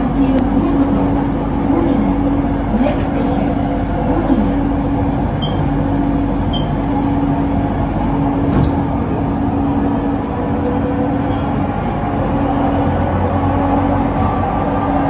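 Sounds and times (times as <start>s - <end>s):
electric train motor hum: 0.0s - 15.0s.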